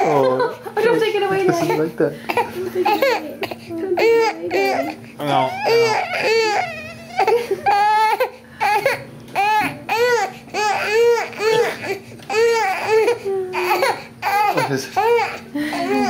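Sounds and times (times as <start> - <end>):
newborn baby crying: 1.6 - 16.0.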